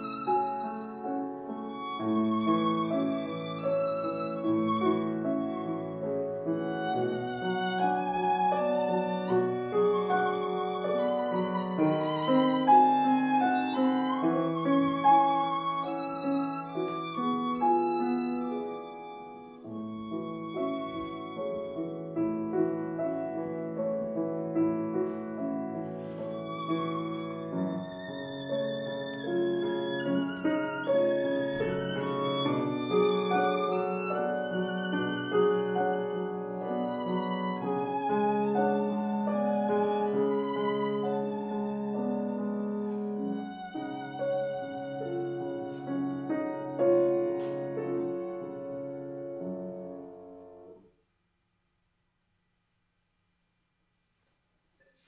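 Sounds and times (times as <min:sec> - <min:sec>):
violin melody: 0:00.0 - 0:50.8
piano accompaniment: 0:00.0 - 0:51.0.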